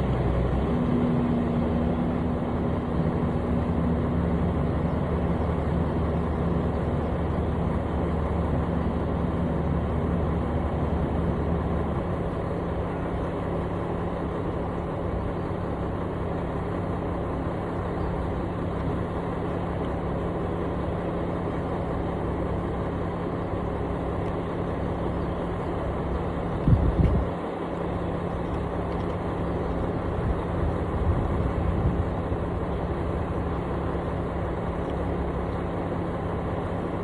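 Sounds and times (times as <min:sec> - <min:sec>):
construction machine engine running: 0:00.0 - 0:37.0.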